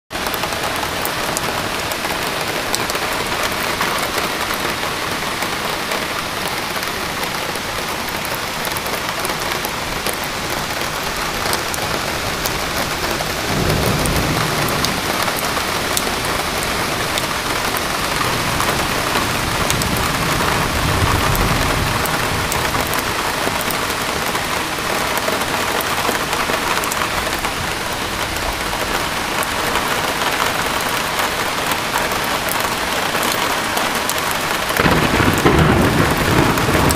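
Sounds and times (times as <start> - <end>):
heavy rain falling: 0.1 - 36.9.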